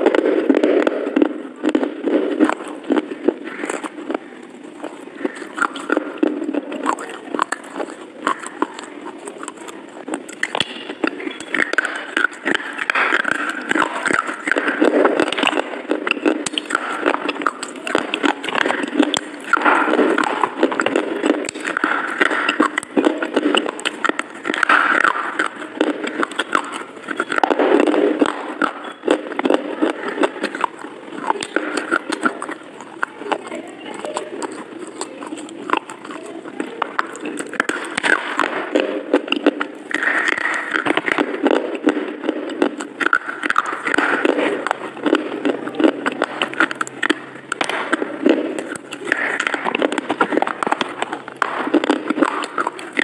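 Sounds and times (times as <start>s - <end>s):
crunching chewing sounds: 0.0s - 53.0s.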